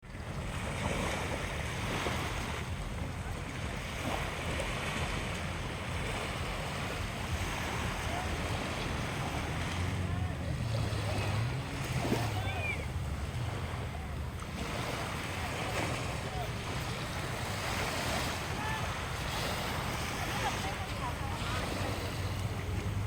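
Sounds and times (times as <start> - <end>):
sea waves washing: 0.0 - 23.0
wind rumbling on microphone: 0.0 - 23.0.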